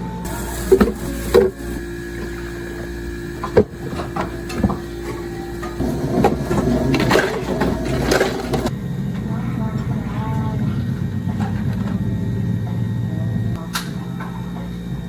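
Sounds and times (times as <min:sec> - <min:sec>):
rough mechanical noise: 0:00.0 - 0:15.0
steady machine hum: 0:00.0 - 0:15.0.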